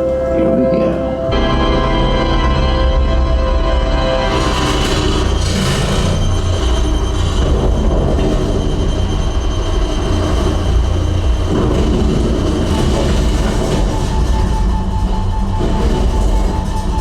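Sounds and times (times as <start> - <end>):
deep bass rumble: 0.0 - 17.0
film soundtrack through speakers: 0.0 - 17.0.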